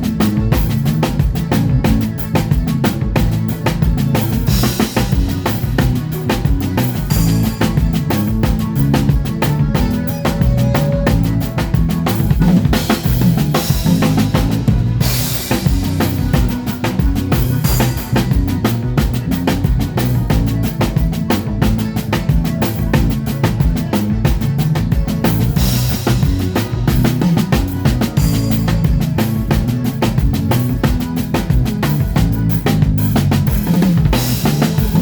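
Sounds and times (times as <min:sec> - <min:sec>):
bass notes: 0:00.0 - 0:35.0
drum kit beat: 0:00.0 - 0:35.0.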